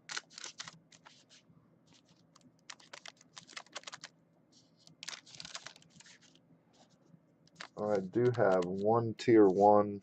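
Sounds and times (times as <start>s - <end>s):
small clicks and crinkles: 0.0s - 9.6s.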